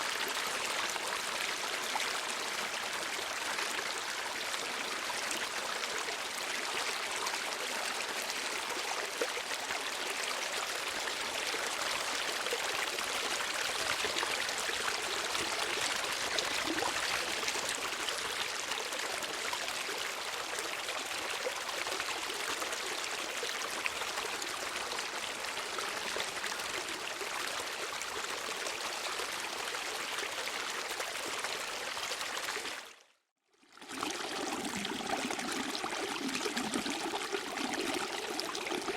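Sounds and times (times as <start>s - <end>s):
water flowing over rocks: 0.0s - 33.0s, 33.8s - 38.9s.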